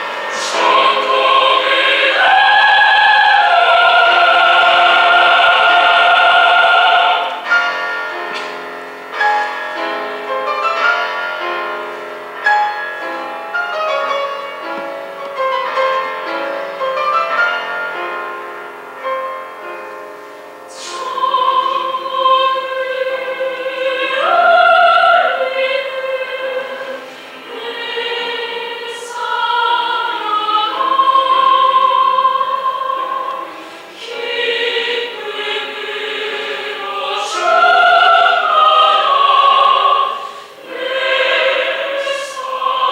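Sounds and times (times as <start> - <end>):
choir singing: 0.0 - 18.2, 20.6 - 42.9
piano accompaniment: 0.0 - 42.9.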